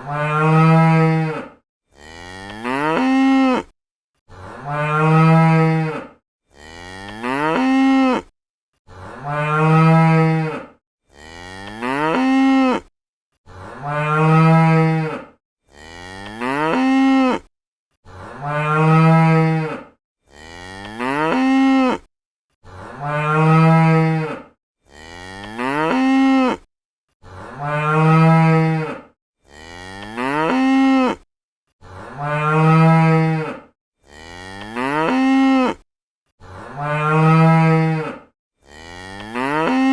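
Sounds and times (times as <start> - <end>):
cow mooing: 0.0 - 3.7, 4.3 - 8.3, 8.9 - 17.5, 18.1 - 22.1, 22.7 - 39.9.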